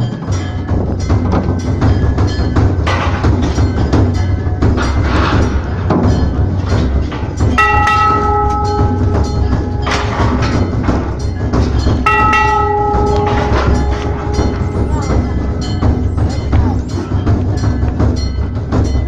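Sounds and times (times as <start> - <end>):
fast percussion clatter: 0.0 - 19.0
temple bell ringing: 0.0 - 19.0.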